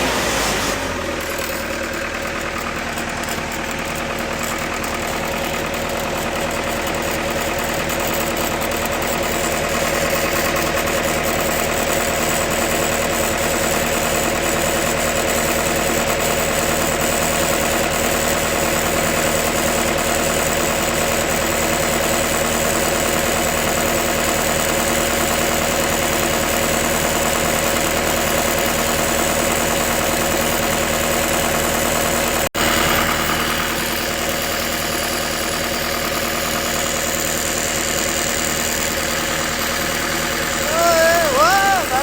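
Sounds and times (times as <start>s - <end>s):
welder engine idling: 0.0s - 42.0s.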